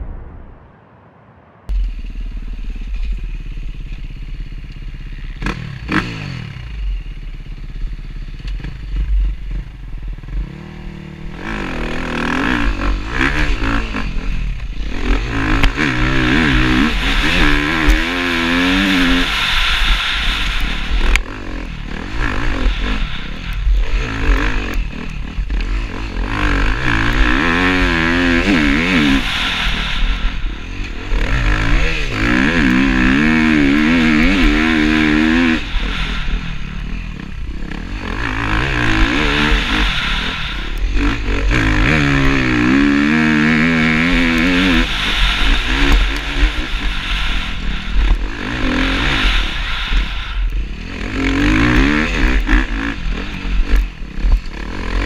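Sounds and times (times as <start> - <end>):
motorcycle engine revving: 1.7 - 55.0.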